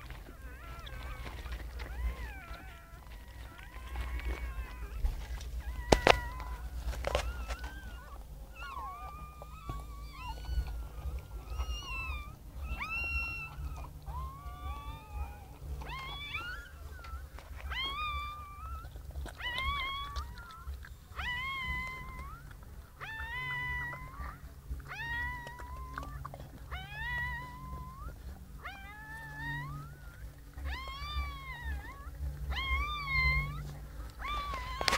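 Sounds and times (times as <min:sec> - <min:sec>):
newborn puppies crying: 0:00.0 - 0:34.9.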